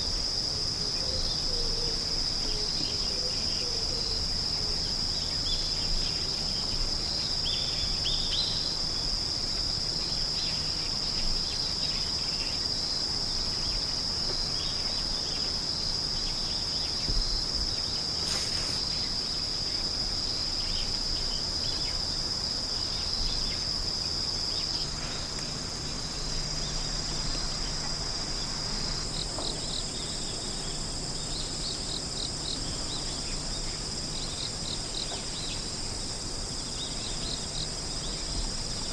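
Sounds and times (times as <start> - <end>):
higher insect song: 0.0 - 38.9
insects trilling: 0.0 - 38.9
rapid insect chirps: 0.0 - 38.9.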